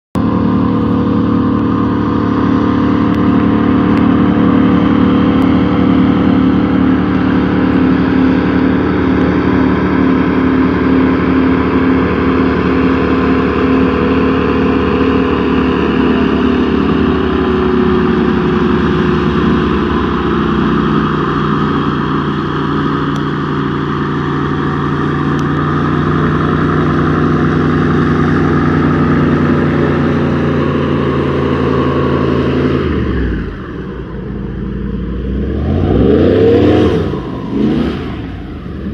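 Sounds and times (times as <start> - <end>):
airboat engine drone: 0.2 - 38.9.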